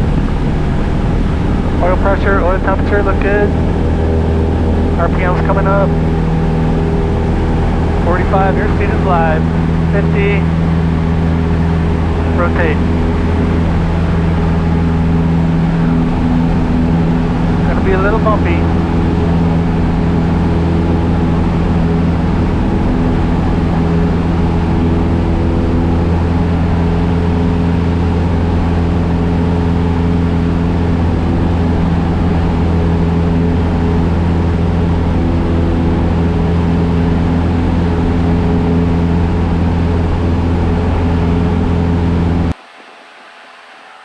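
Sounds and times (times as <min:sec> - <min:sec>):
airplane engine and propeller droning: 0:00.0 - 0:44.0.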